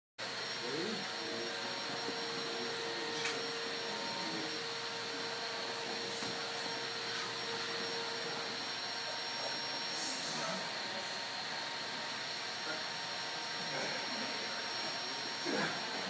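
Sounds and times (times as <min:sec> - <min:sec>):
whirring machine drone: 0:00.2 - 0:16.0.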